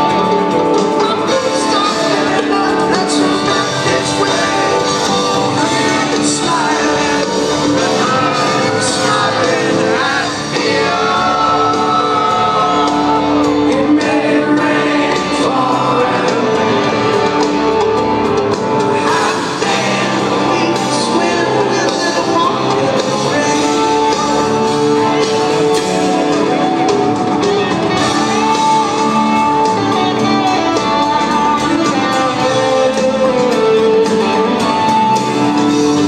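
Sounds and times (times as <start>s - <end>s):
live rock band playing: 0.0s - 36.0s
person singing: 0.0s - 36.0s
audience shouting: 1.0s - 36.0s.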